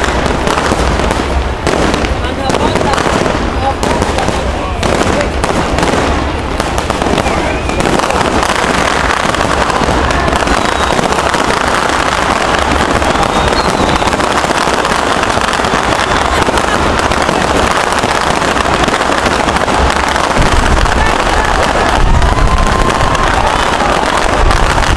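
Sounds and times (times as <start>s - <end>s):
fireworks crackling bursts: 0.0s - 24.9s.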